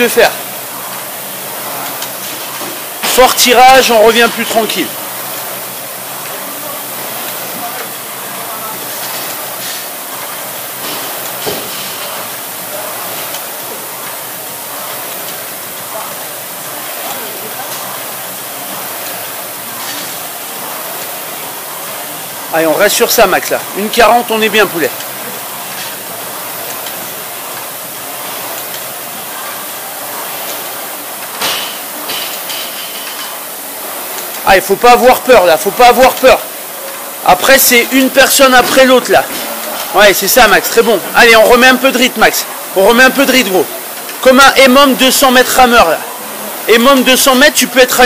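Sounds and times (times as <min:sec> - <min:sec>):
rowing machine fans rushing: 0:00.0 - 0:48.0.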